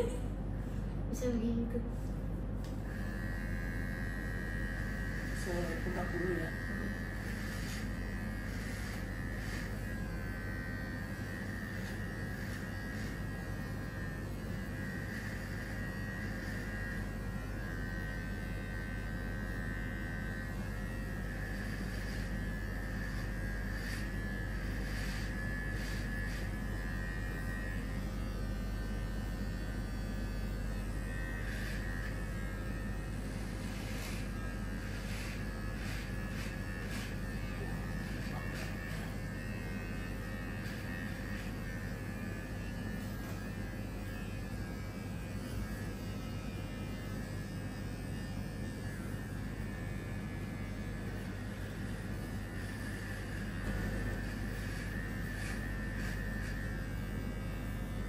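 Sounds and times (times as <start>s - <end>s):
electric hair clippers buzzing: 0.0s - 1.8s, 2.5s - 58.0s.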